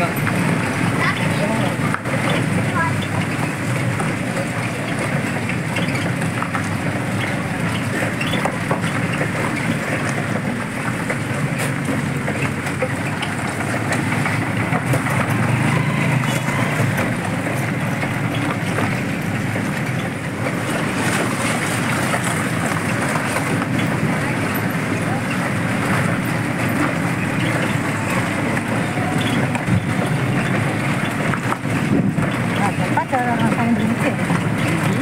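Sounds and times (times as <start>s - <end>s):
tyres rumbling on gravel: 0.0s - 35.0s.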